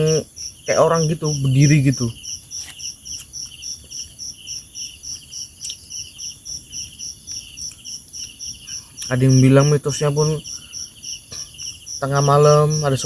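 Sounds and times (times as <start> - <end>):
high insect chirp: 0.0 - 13.0
lower pulsing insect trill: 0.0 - 13.0
steady high-pitched hum: 0.0 - 13.0.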